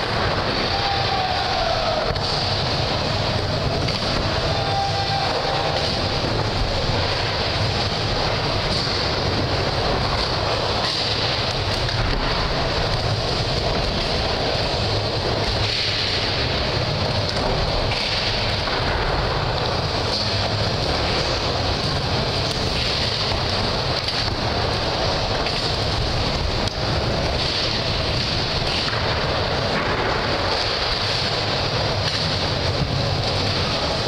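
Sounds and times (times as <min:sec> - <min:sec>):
skateboard wheels rolling on wood: 0:00.0 - 0:34.0.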